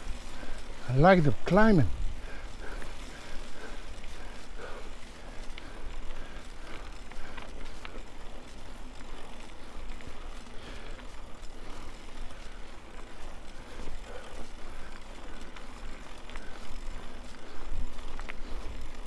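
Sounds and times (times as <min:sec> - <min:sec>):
bike tyres rolling on dirt: 0:00.0 - 0:19.0.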